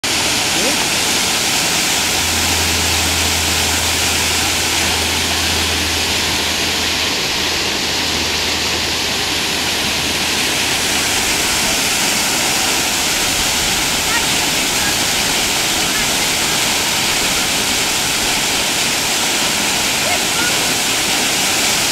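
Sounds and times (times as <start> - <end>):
low rumble: 0.0 - 19.1
waterfall rushing: 0.0 - 21.9.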